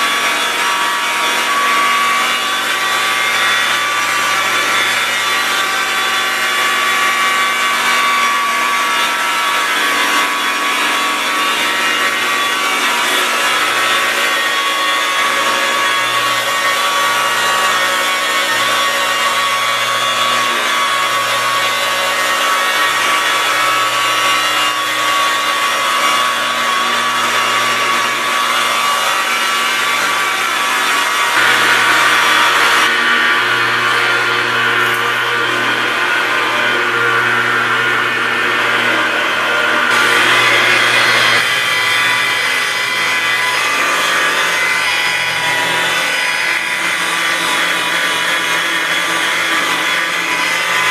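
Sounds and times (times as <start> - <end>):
electric polisher motor whine: 0.0 - 50.9.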